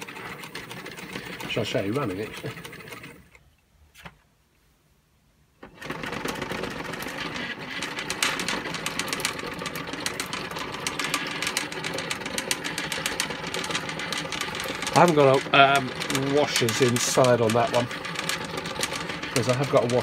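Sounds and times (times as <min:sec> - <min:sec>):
fast clicking of belt: 0:00.0 - 0:03.3, 0:05.7 - 0:20.0
electric motor running: 0:00.0 - 0:03.4, 0:05.7 - 0:20.0.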